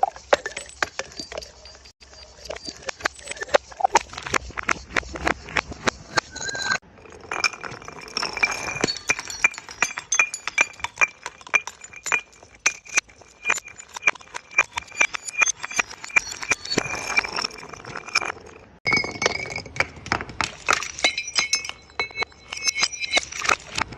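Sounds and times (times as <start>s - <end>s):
glass bottles clinking and breaking: 0.0s - 4.7s, 5.6s - 23.9s.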